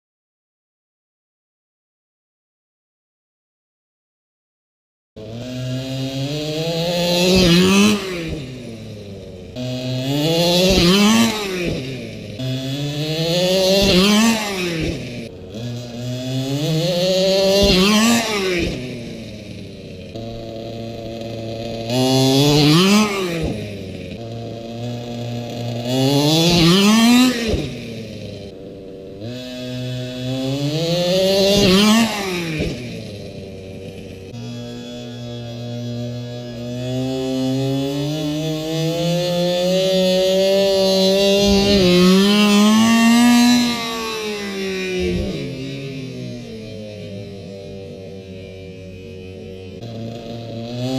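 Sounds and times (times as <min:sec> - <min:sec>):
small two-stroke engine revving: 0:05.2 - 0:50.9.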